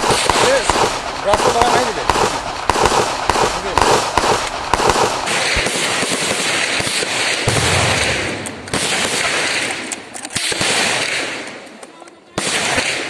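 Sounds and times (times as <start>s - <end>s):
rifle gunfire: 0.0s - 11.7s, 12.4s - 13.0s.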